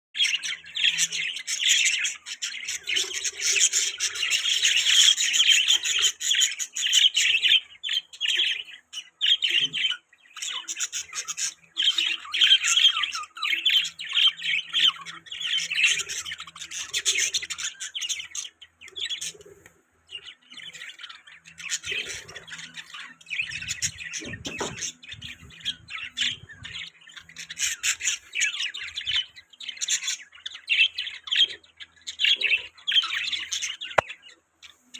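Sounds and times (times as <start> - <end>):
budgies chattering and chirping: 0.2 - 34.9.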